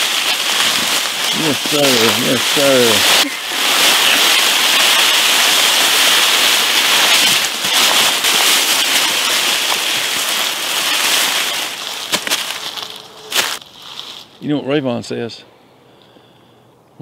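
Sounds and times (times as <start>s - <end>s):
carcass dragged over dry leaves: 0.0s - 14.4s
footsteps on leaves: 0.0s - 14.5s.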